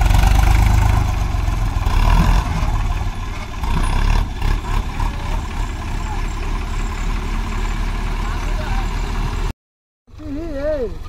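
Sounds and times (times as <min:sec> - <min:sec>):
diesel tractor engine running: 0:00.0 - 0:09.5, 0:10.1 - 0:11.0.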